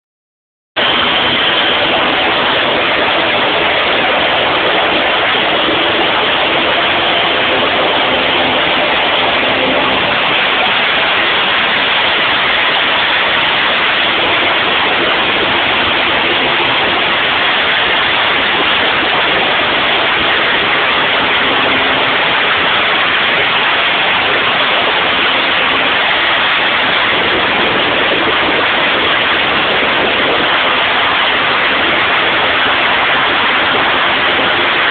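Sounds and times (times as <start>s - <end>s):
turbine engine running: 0.8s - 34.9s.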